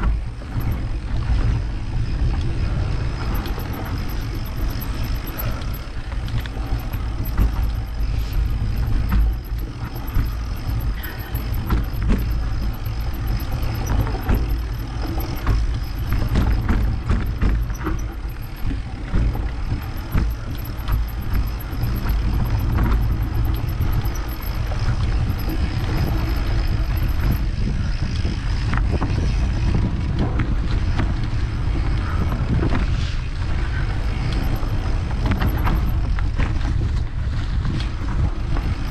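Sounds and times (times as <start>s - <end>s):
bike rattling over bumps: 0.0s - 38.9s
wind buffeting microphone: 0.0s - 38.9s.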